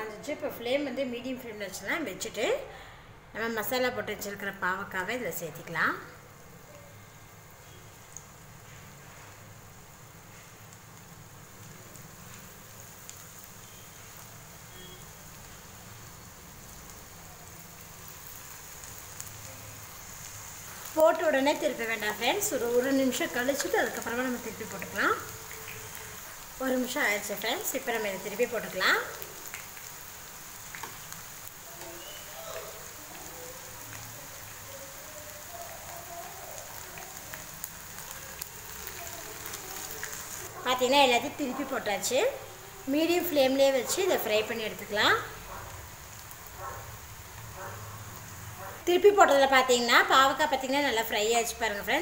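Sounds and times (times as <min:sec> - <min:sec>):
food sizzling in hot oil: 0:03.4 - 0:52.0.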